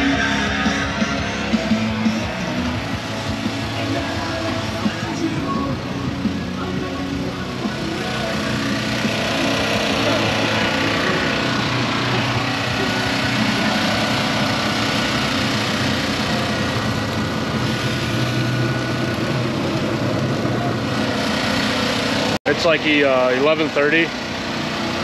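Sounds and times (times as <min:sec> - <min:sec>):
small engine humming: 0:00.0 - 0:25.0.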